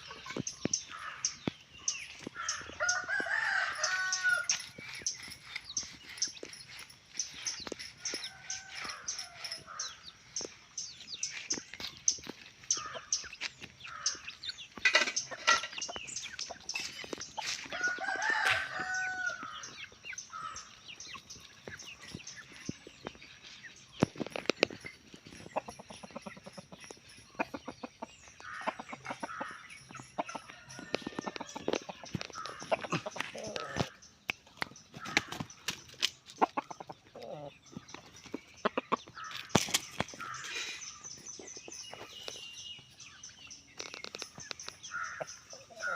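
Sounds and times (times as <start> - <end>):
roosters clucking and crowing: 0.0 - 45.9.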